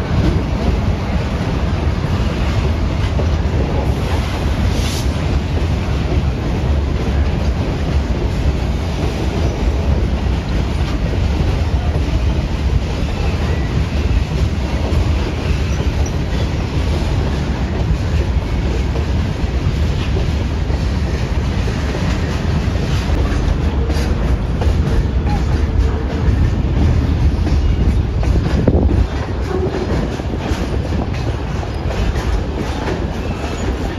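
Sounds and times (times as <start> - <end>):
train low rumble: 0.0 - 33.9.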